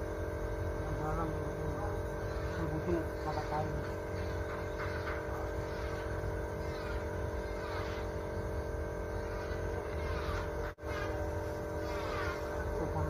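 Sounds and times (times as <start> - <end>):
engine droning hum: 0.0 - 13.0.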